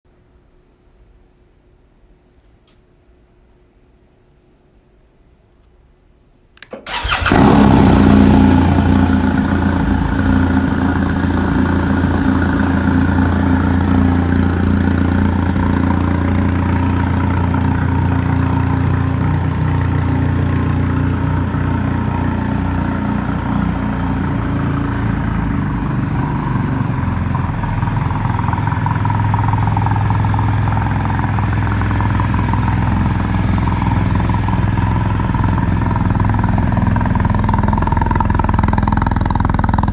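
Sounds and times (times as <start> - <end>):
motorcycle engine starting and idling: 6.6 - 39.9.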